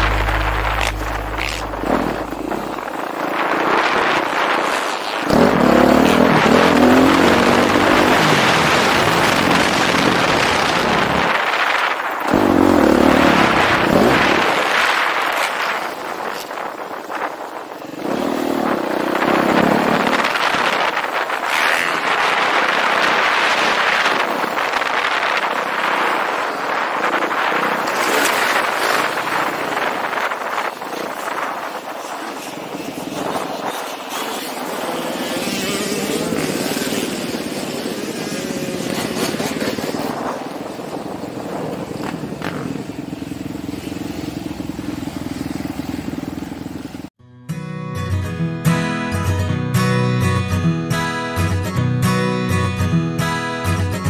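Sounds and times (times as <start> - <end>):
dirt bike engine revving: 0.0 - 11.4, 12.2 - 17.2, 17.8 - 26.4, 27.1 - 47.0.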